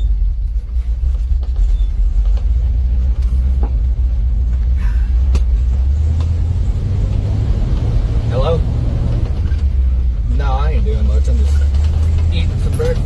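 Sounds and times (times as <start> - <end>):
road rumble: 0.0 - 13.0
truck engine drone: 0.0 - 13.0.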